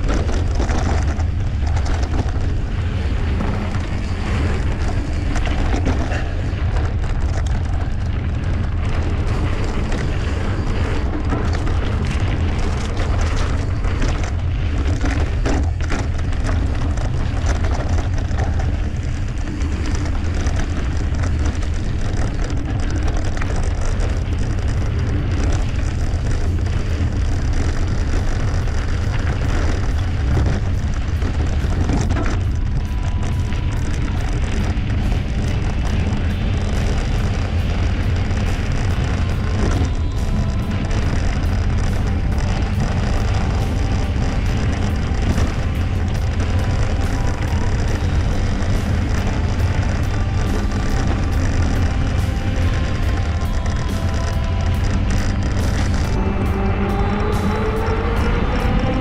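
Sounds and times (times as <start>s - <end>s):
bike knocks and rattles: 0.0s - 56.1s
wind buffeting microphone: 0.0s - 59.0s.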